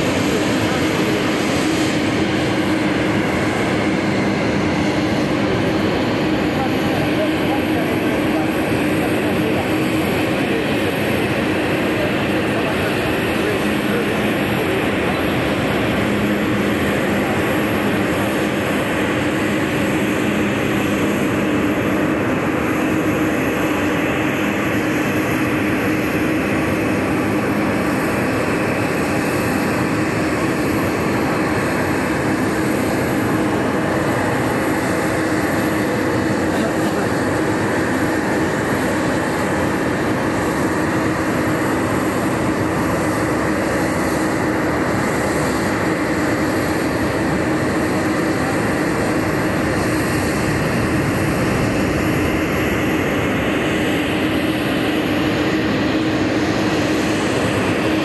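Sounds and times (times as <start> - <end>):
jet flying overhead: 0.0 - 58.0.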